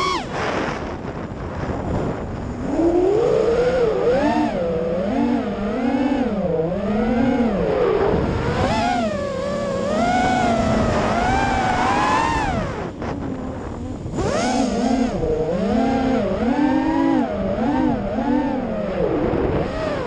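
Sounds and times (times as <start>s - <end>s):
drone motors whining: 0.0s - 20.0s
wind noise: 0.0s - 20.0s.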